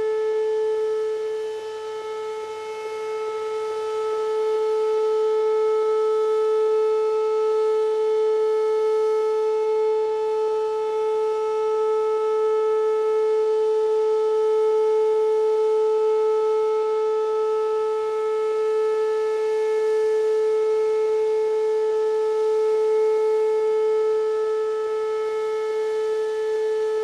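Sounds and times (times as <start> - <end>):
steady warning siren tone: 0.0 - 27.0.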